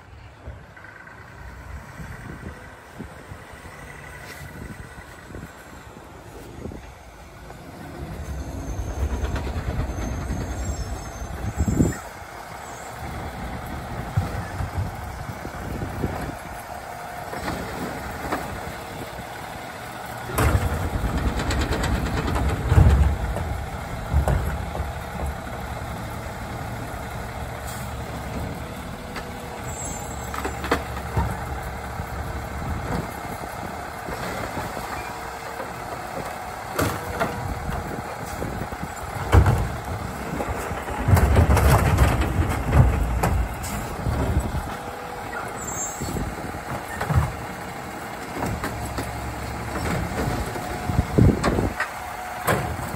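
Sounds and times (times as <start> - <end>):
garbage truck engine: 0.0 - 52.9.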